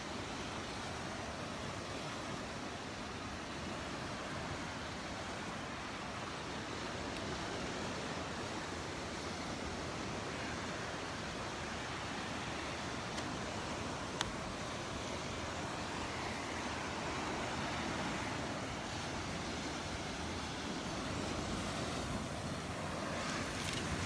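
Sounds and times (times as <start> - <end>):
surf on sandy beach: 0.0 - 24.0.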